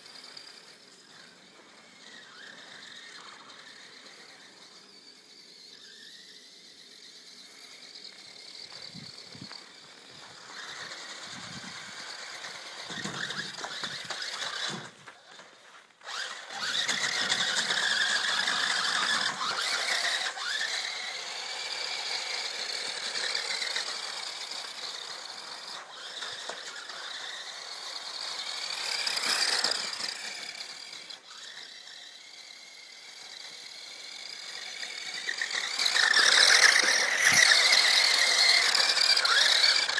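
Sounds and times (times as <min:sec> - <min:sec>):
toy car motor whining: 0:00.0 - 0:39.9.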